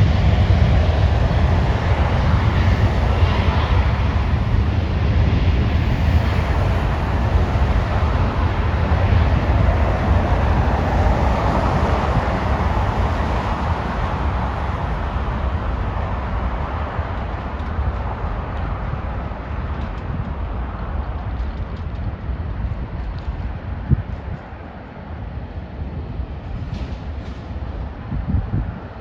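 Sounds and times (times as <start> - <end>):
jet engine rumble: 0.0 - 29.0
wind buffeting microphone: 0.0 - 29.0.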